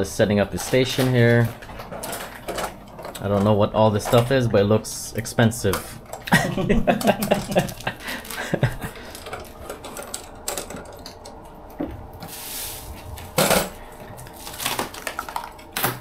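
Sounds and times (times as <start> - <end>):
small items clicking and clattering: 0.5 - 4.6, 5.6 - 11.6, 13.2 - 16.0.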